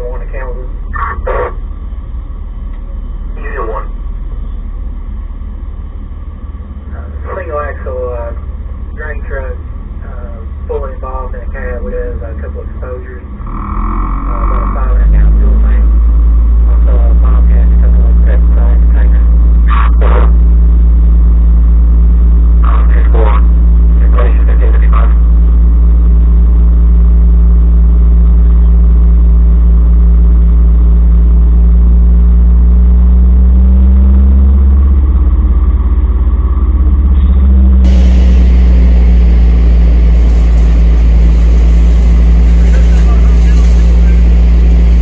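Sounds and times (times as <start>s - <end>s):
loud engine drone: 0.0s - 45.0s.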